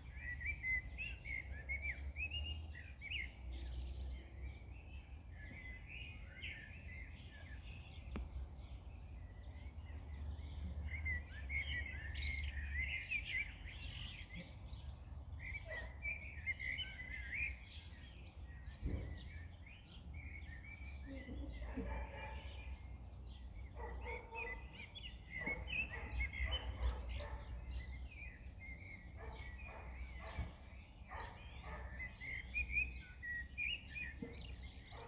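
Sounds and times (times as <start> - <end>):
songbirds chirping and singing: 0.0 - 35.0.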